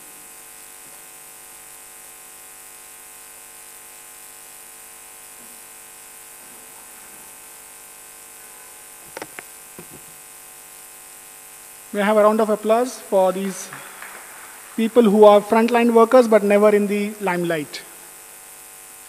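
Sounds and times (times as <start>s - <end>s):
electrical buzz and hiss: 0.0s - 19.0s.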